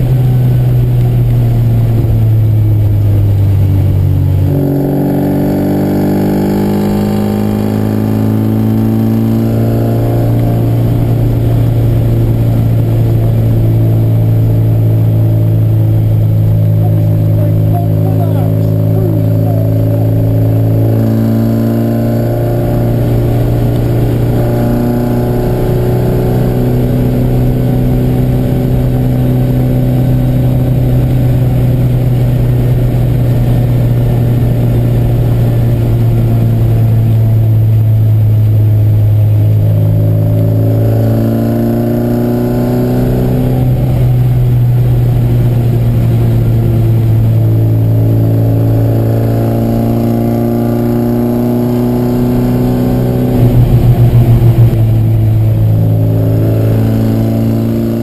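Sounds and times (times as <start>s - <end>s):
car engine heard from inside: 0.0s - 58.0s.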